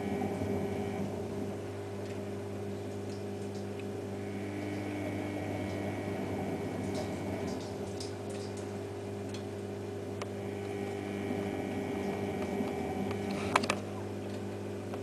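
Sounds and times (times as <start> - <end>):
washing machine electrical hum: 0.0 - 15.0.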